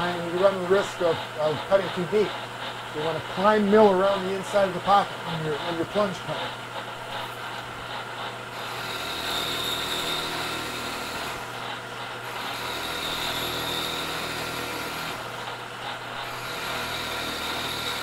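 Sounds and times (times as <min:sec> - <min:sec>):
milling machine cutting metal: 0:00.0 - 0:18.0.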